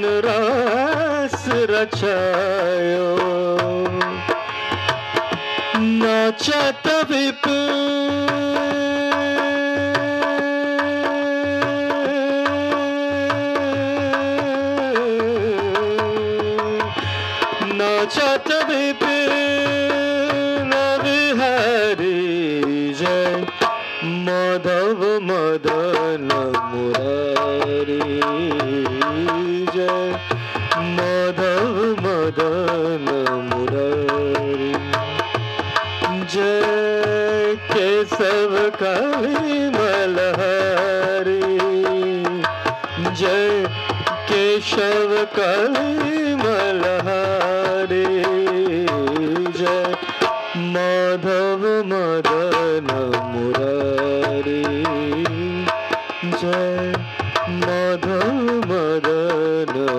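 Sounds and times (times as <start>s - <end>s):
harmonium: 0.0s - 59.9s
person singing melody: 0.0s - 59.9s.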